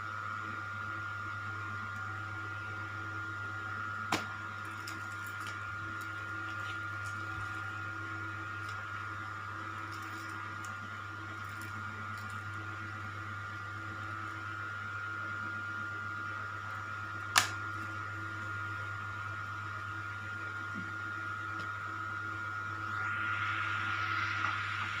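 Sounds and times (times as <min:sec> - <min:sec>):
mechanical hum with whine: 0:00.0 - 0:25.0.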